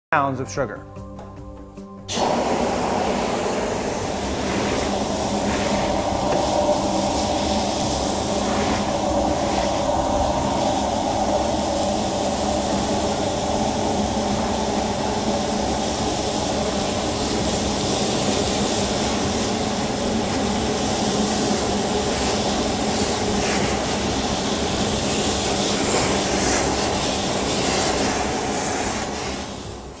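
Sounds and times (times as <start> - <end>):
vacuum cleaner running: 2.1 - 30.0.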